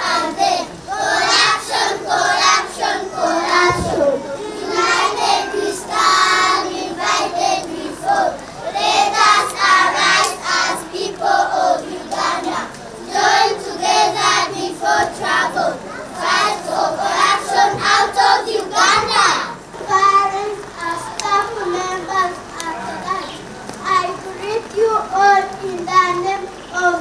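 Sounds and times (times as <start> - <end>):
children singing together: 0.0 - 24.2.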